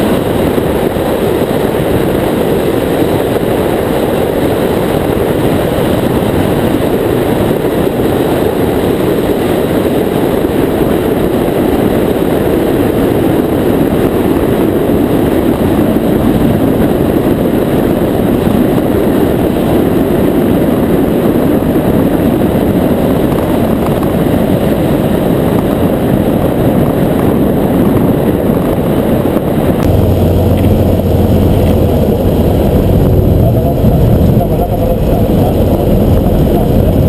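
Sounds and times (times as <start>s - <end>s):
propeller aircraft engine: 0.0s - 37.0s.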